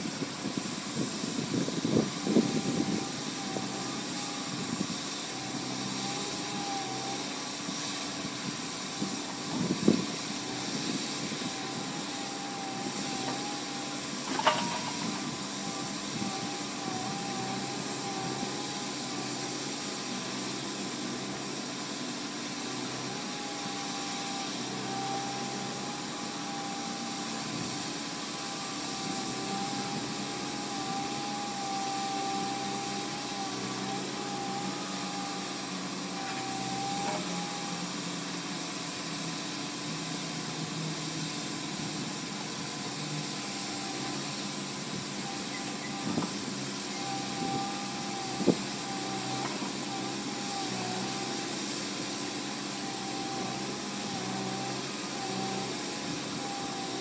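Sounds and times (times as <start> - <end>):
excavator engine and hydraulics humming: 0.0 - 57.0.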